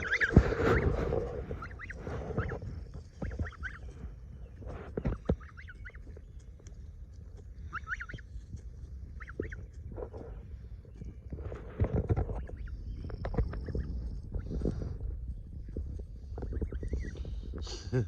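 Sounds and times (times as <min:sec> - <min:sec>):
young geese peeping: 0:00.0 - 0:17.7.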